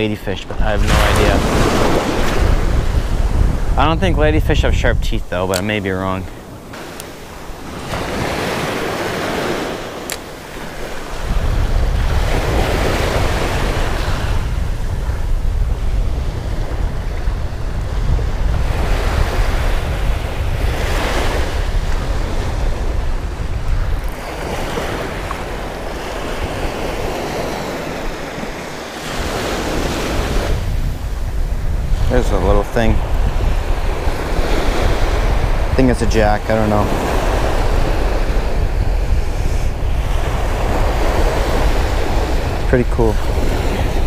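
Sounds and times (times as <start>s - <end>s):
surf waves breaking on sand: 0.0s - 44.0s
wind buffeting microphone: 0.0s - 44.0s.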